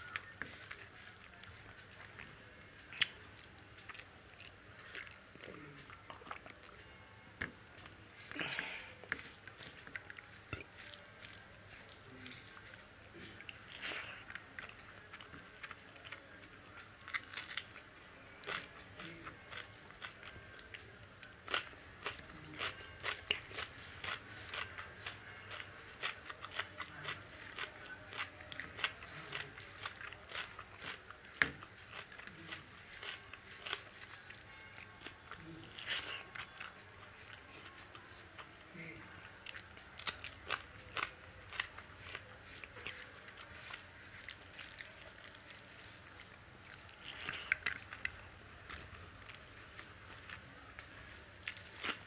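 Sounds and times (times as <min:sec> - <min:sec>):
person chewing food: 0:00.0 - 0:06.8, 0:07.4 - 0:38.5, 0:39.2 - 0:52.0.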